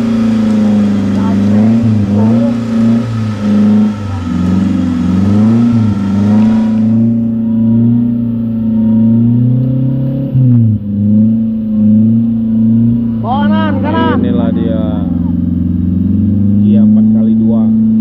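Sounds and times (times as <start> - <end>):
truck engine revving under load: 0.0 - 18.0.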